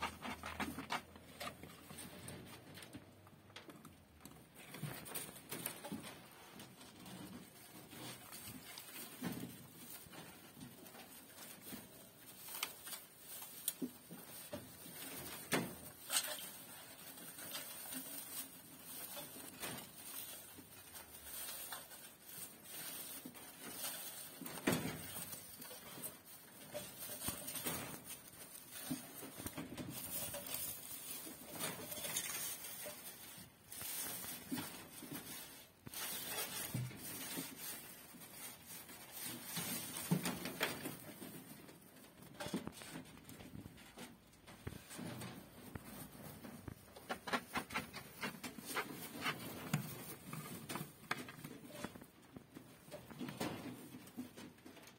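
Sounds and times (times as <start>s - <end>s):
rustling of straw: 4.6s - 54.9s.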